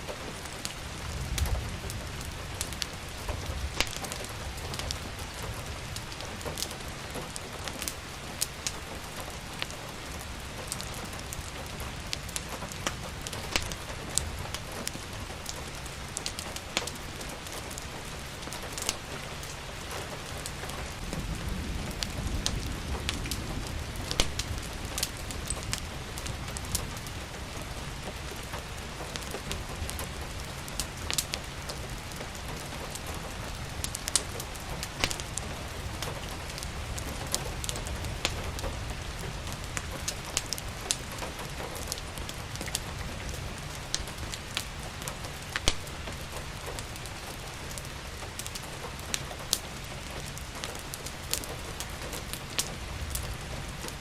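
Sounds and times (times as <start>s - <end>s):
steady rain falling: 0.0s - 54.0s
wood fire crackling: 0.0s - 54.0s.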